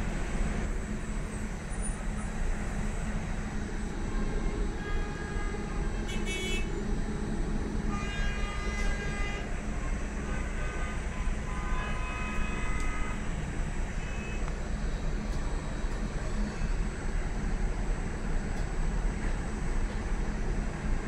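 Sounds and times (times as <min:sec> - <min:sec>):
tram low rumble: 0:00.0 - 0:21.0.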